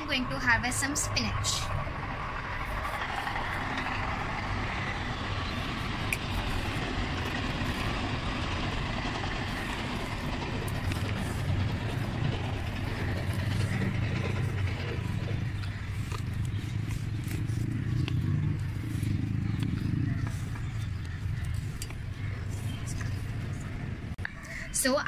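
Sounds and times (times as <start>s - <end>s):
road traffic rumble and hiss: 0.0s - 25.0s.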